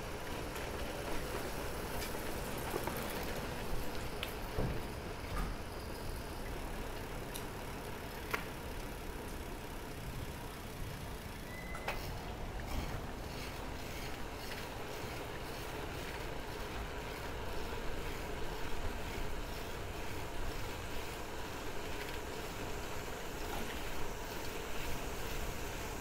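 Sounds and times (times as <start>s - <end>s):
bicycle tyres on asphalt: 0.0s - 26.0s.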